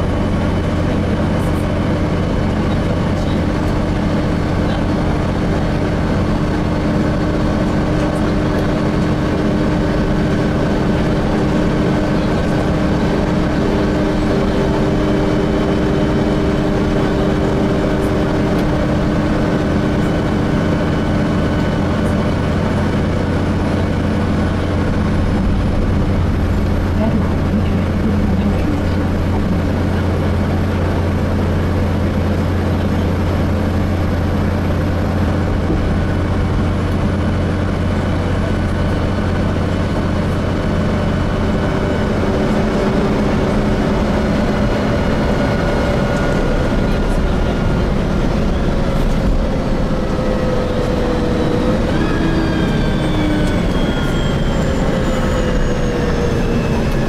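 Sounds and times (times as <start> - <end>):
bus engine hum: 0.0 - 57.0
road noise: 0.0 - 57.0.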